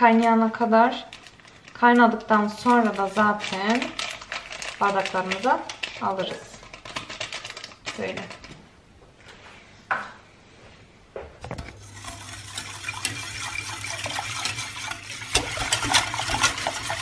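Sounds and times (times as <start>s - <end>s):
whisk clicking and scraping pot: 0.0s - 8.6s, 11.5s - 17.0s.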